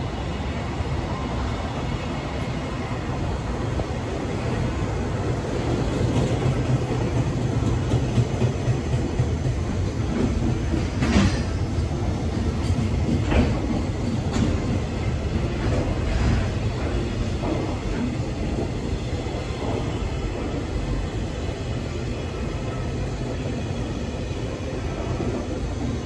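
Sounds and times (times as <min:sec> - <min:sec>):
freight train wheels clattering: 0:04.6 - 0:26.0.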